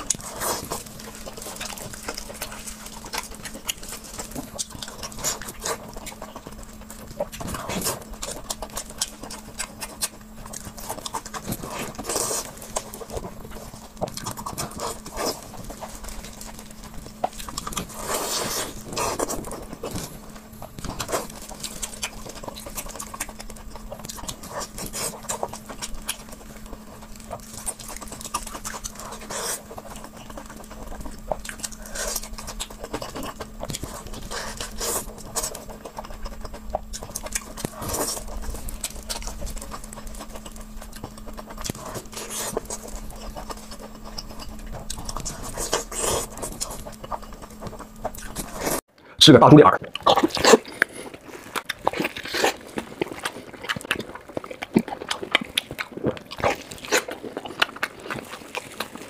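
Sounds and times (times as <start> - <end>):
person chewing: 0.0 - 48.8, 49.7 - 59.0
faint steady hum: 0.0 - 59.0.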